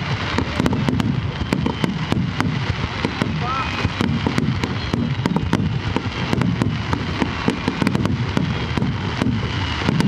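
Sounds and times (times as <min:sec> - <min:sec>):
deep fireworks booms: 0:00.0 - 0:10.0
fireworks cracking: 0:00.0 - 0:10.0.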